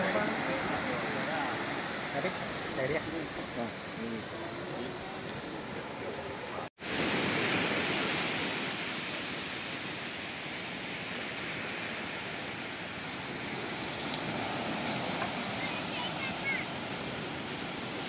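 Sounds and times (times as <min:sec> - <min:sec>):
sea surf washing on beach: 0:00.0 - 0:18.0.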